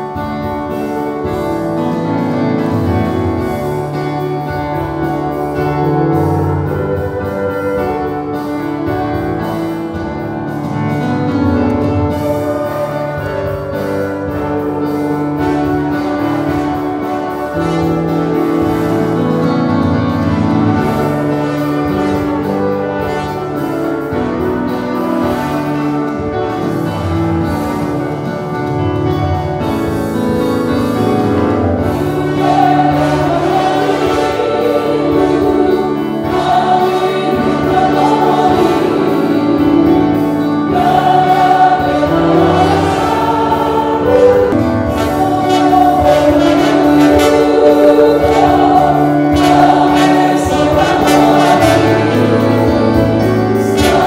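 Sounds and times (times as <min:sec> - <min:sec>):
choir singing: 0:00.0 - 0:28.5, 0:29.4 - 0:54.0
instrumental accompaniment: 0:00.0 - 0:54.0.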